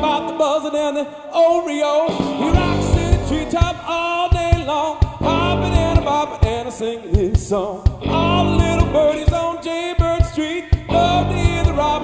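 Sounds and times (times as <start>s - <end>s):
man singing lead vocal: 0.0s - 12.0s
live rock band playing: 2.0s - 12.0s.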